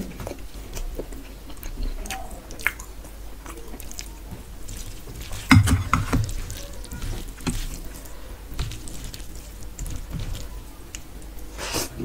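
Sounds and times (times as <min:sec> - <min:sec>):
fingers squishing rice and curry: 0:00.0 - 0:11.6.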